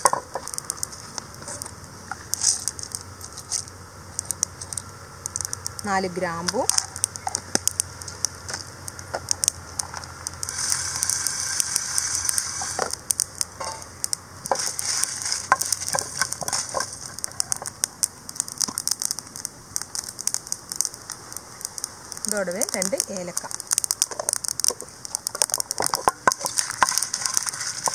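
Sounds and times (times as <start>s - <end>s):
spices rattling in a pan: 0.0s - 27.9s.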